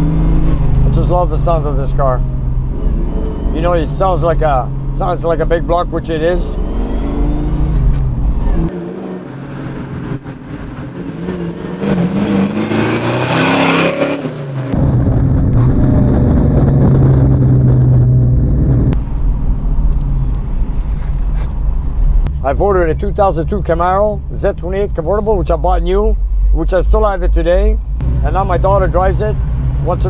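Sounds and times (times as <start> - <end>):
muscle car engine accelerating: 0.0 - 25.8, 26.4 - 30.0
car engine cruising from cabin: 0.0 - 30.0.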